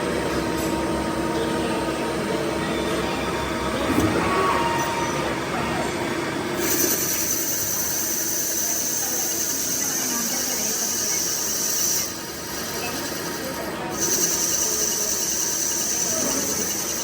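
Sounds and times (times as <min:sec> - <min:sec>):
workshop machinery running: 0:00.0 - 0:17.0.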